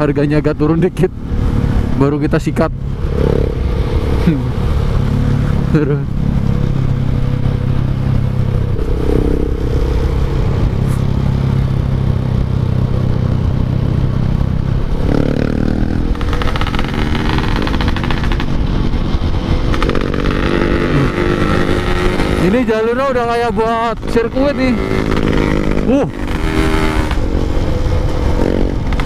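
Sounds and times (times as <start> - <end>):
motorcycle engine revving: 2.6 - 22.8, 23.6 - 29.0.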